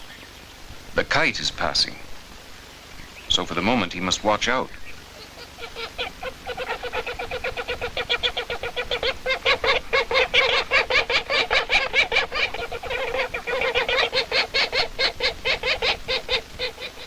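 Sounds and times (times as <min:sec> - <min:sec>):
woodpecker calling: 0:02.8 - 0:17.0.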